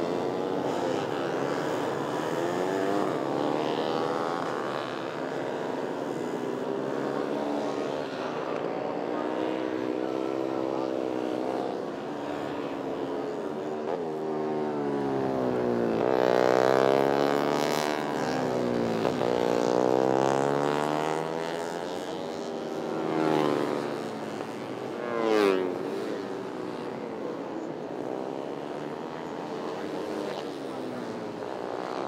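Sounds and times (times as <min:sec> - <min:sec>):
race motorcycles at full throttle: 0:00.0 - 0:32.0.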